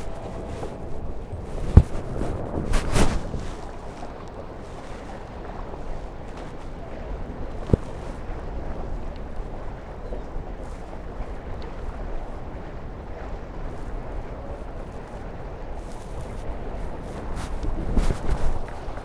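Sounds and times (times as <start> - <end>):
water rushing along hulls: 0.0 - 19.0
water splashes: 0.0 - 19.0
wind buffeting microphone: 0.0 - 19.0.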